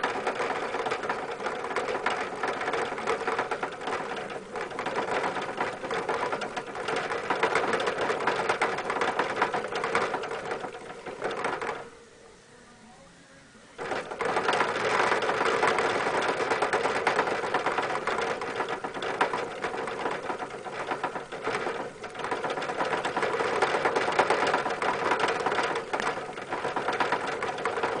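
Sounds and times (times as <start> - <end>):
hamster wheel rattling: 0.0 - 12.0, 13.8 - 28.0.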